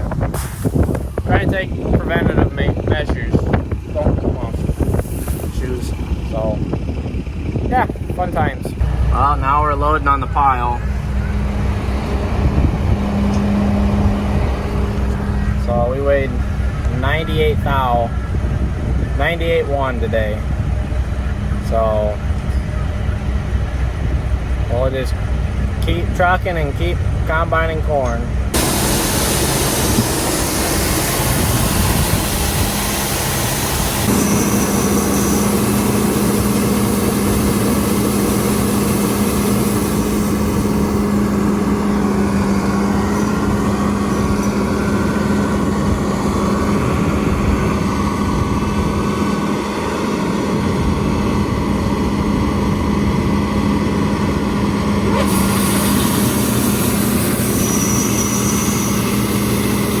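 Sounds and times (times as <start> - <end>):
large diesel engine running: 0.0 - 60.0.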